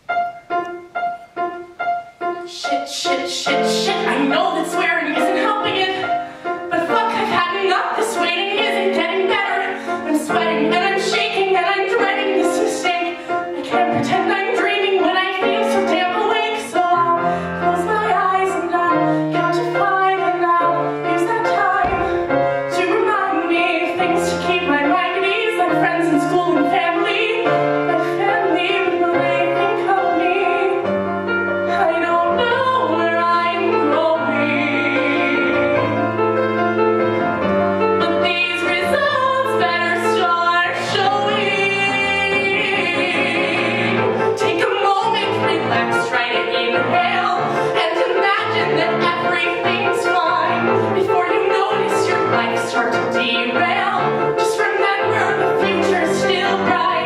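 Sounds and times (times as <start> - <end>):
grand piano: 0.0 - 57.0
woman singing: 2.4 - 30.9, 31.7 - 36.1, 38.0 - 57.0.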